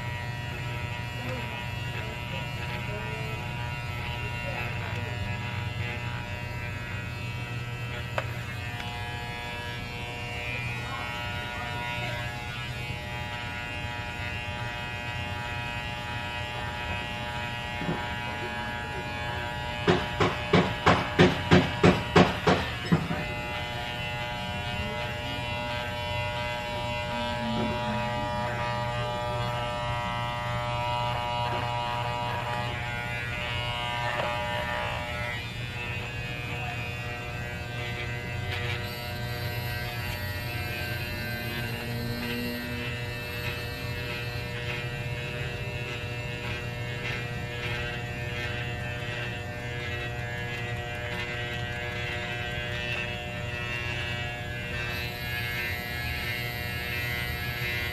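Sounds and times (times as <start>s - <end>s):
electric hair clippers buzzing: 0.0s - 57.9s.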